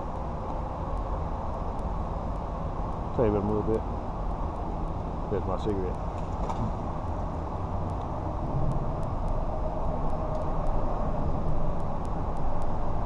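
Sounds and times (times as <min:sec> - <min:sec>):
distant road traffic rumble: 0:00.0 - 0:13.0
faint engine hum: 0:00.0 - 0:13.0.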